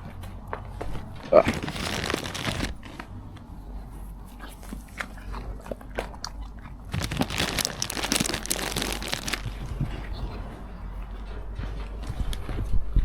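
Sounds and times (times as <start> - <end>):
animal crunching food: 0.2 - 3.2, 4.0 - 12.7.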